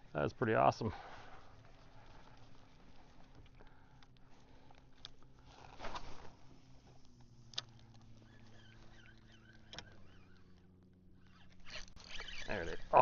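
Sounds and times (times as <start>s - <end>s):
motor humming: 1.0s - 13.0s.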